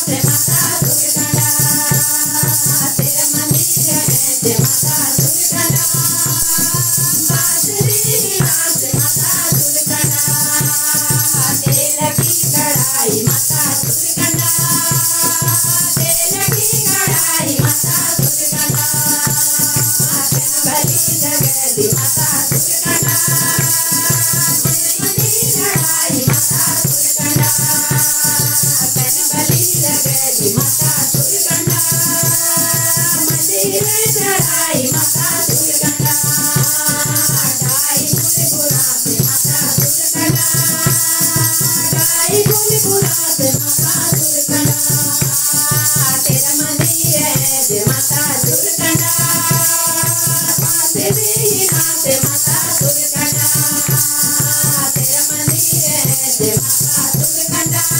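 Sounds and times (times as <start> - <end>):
hand drum beat: 0.0 - 57.9
hand-clapping: 0.0 - 57.9
percussion rattle: 0.0 - 57.9
women singing devotional song: 0.0 - 57.9.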